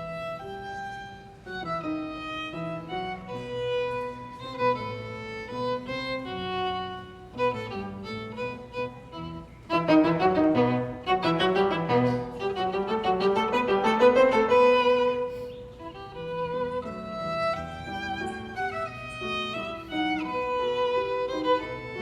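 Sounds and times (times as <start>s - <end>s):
music with long held notes: 0.0s - 22.0s.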